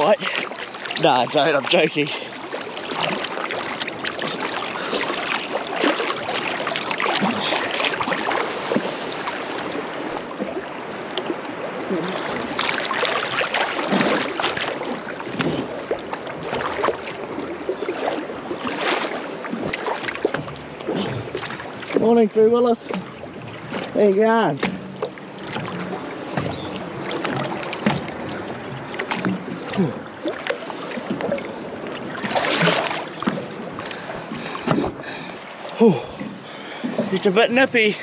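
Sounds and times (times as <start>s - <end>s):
water rushing over microphone: 0.0s - 38.0s
water splashing from swimming: 0.0s - 38.0s.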